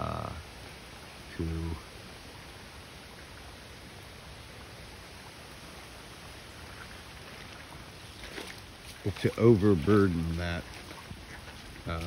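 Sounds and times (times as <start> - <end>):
falling rain hiss: 0.0 - 12.0.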